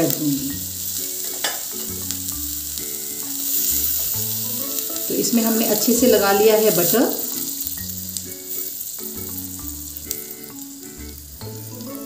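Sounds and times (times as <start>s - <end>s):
butter sizzling in a pan: 0.0s - 12.0s
soft background music: 0.0s - 12.0s.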